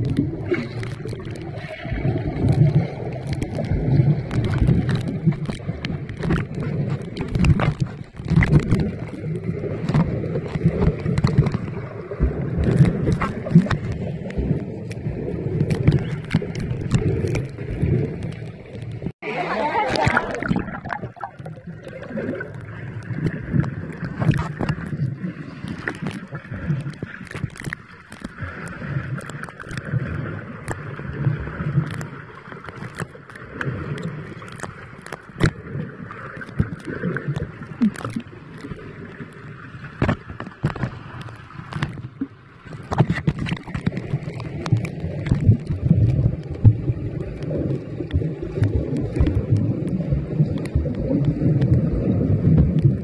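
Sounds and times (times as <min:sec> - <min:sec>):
sharp clicks underwater: 0:00.0 - 0:19.2, 0:19.8 - 0:53.0
underwater churning and gurgling: 0:00.0 - 0:53.0.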